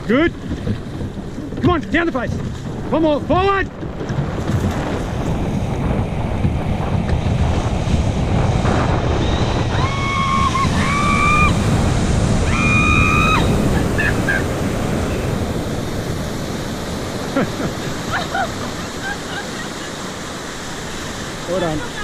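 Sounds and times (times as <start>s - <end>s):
breaking surf: 0.0s - 22.0s
wind rushing over microphone: 0.0s - 22.0s.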